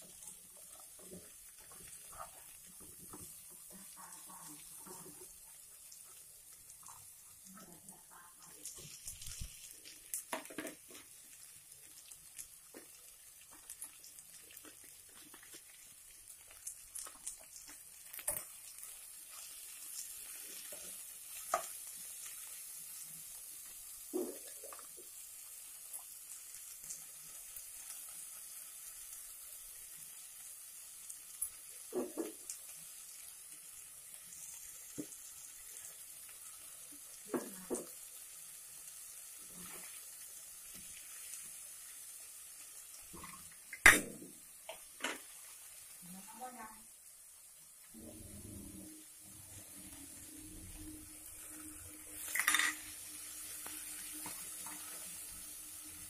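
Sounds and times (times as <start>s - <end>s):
food sizzling in a wok: 0.0s - 56.0s.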